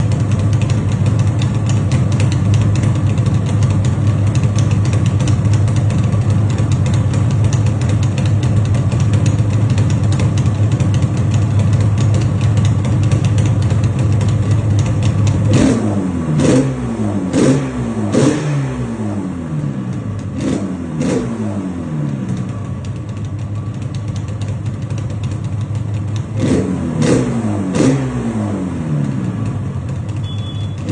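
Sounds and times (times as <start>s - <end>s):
two-stroke engine idling: 0.0s - 18.3s, 21.8s - 27.1s, 28.7s - 30.9s.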